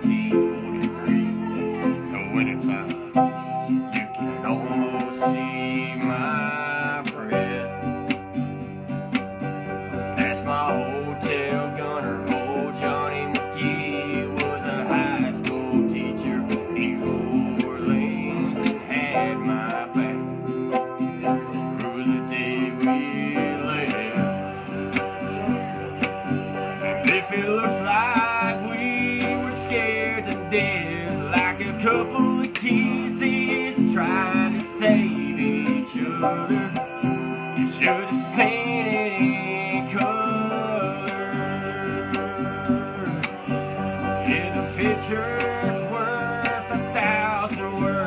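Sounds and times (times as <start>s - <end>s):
acoustic guitar strumming: 0.0s - 48.0s
sliding melody line: 0.0s - 48.0s.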